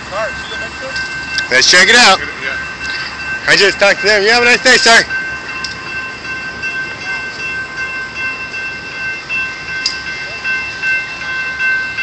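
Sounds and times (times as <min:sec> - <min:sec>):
railroad crossing bell tones: 0:00.0 - 0:12.0.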